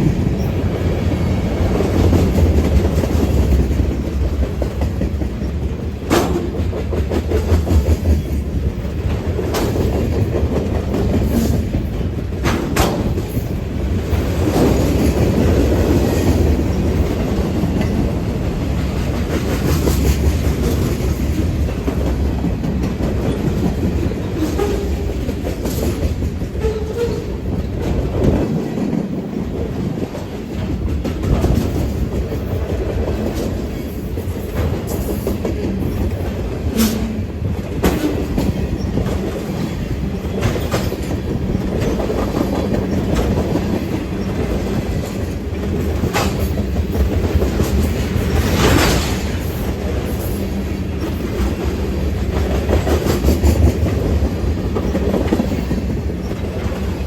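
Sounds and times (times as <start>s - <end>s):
train wheels on rails: 0.0s - 57.0s
wheels clacking over rail joints: 0.0s - 57.0s.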